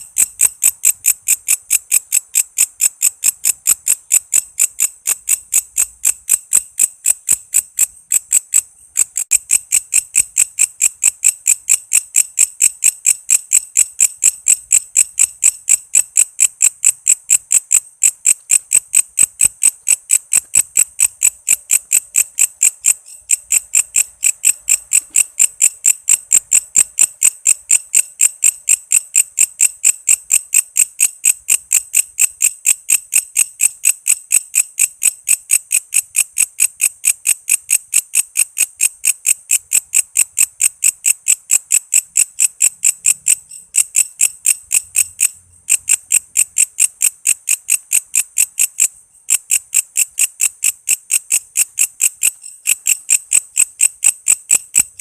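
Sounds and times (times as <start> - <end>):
katydid chirping: 0.0 - 55.0.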